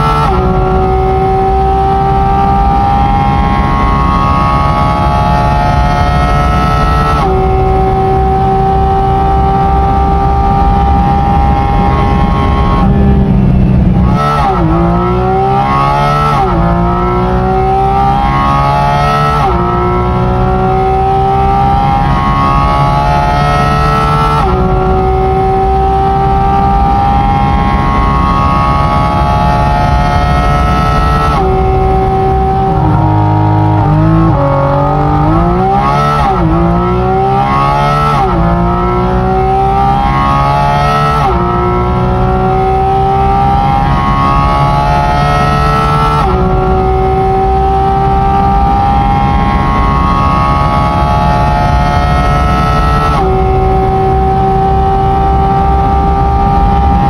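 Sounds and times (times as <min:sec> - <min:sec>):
car engine revving at high revs: 0:00.0 - 0:57.0.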